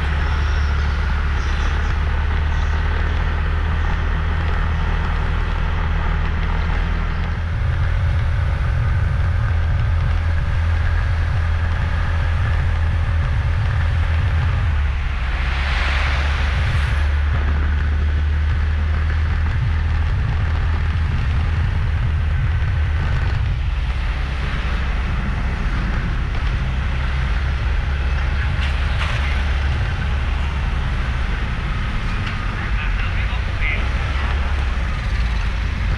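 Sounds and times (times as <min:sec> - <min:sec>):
motorbike engine rumble: 0:00.0 - 0:35.9
wind buffeting microphone: 0:00.0 - 0:35.9.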